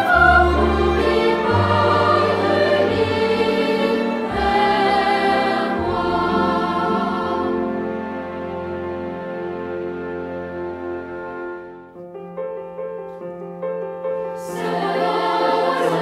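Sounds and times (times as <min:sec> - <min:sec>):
choir singing: 0:00.0 - 0:11.3, 0:14.4 - 0:16.0.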